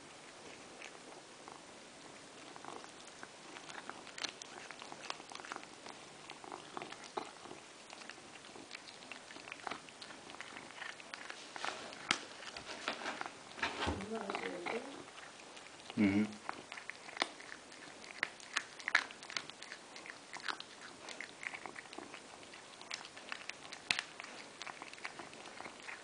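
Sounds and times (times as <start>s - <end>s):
cat chewing and crunching: 0.0s - 26.0s.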